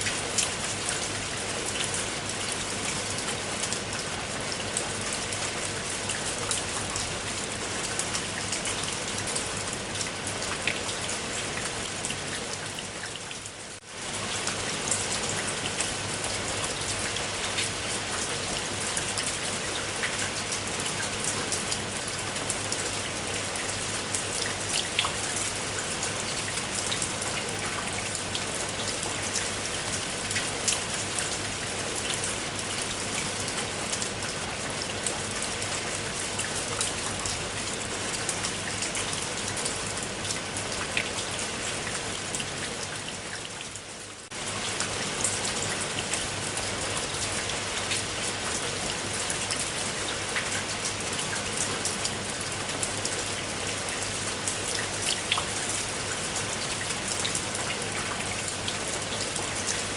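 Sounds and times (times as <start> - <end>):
steady rain with ticking drops: 0.0 - 59.9.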